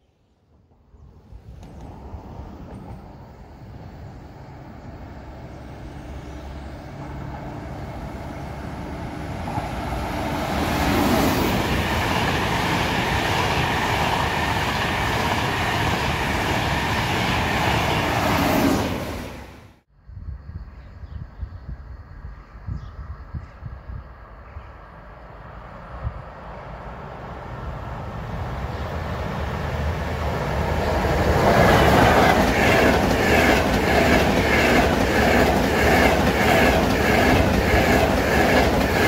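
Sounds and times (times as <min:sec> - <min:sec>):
high-speed train passing: 0:00.0 - 0:19.9, 0:24.0 - 0:39.0.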